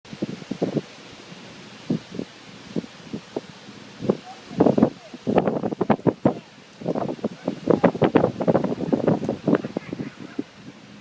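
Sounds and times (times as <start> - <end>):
wind stirring leaves: 0.0 - 11.0.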